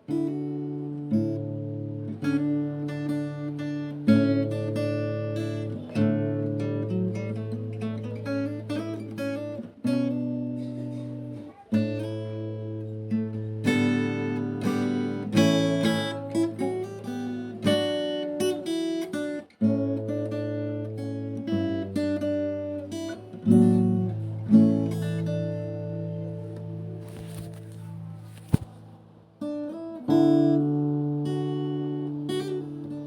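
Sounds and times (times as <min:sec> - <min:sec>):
acoustic guitar music: 0:00.0 - 0:33.0.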